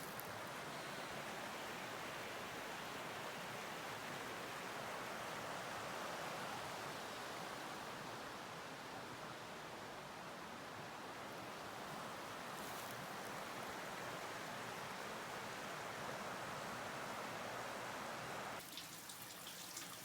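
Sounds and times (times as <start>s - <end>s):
stream flowing: 0.0s - 20.0s.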